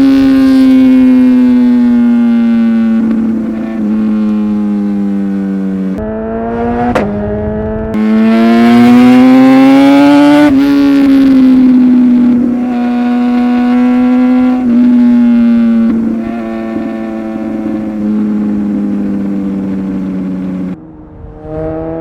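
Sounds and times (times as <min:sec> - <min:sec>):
motorbike engine at high revs: 0:00.0 - 0:20.8, 0:21.4 - 0:22.0.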